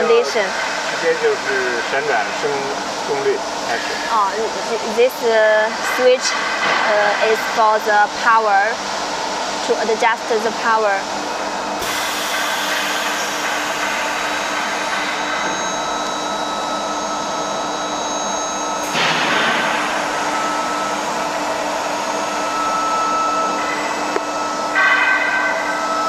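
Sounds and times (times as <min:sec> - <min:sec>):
high-pitched whines: 0:00.0 - 0:06.5, 0:11.5 - 0:26.0
induction furnace rushing noise: 0:00.0 - 0:26.0.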